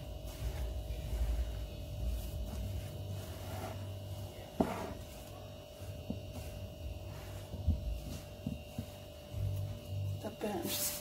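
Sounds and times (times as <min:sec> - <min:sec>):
hands rubbing dough: 0:00.0 - 0:11.0
low electrical hum: 0:00.0 - 0:11.0.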